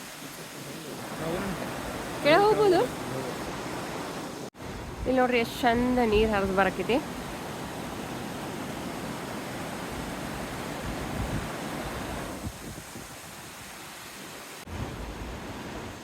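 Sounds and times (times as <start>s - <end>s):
stream flowing over rocks: 0.0s - 4.8s, 6.4s - 16.0s.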